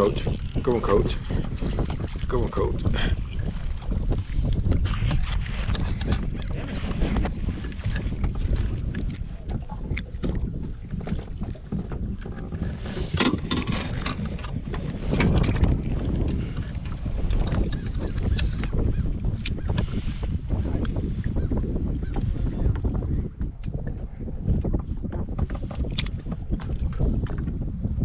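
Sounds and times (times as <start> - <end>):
water lapping against hull: 0.0 - 28.0
wind buffeting microphone: 0.0 - 28.0.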